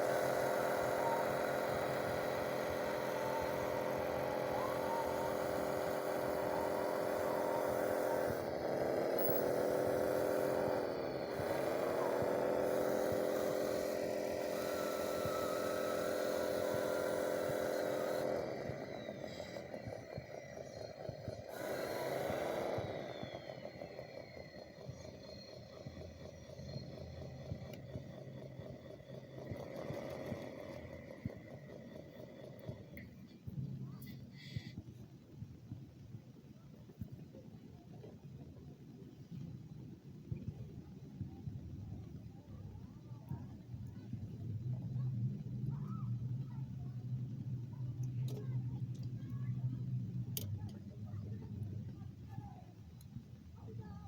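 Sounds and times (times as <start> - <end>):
small electric motor whining: 0.0 - 35.1, 39.3 - 54.0.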